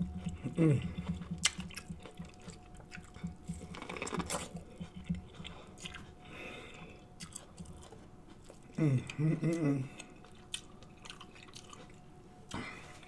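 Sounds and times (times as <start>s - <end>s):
chewing mouth sounds: 0.0s - 13.0s.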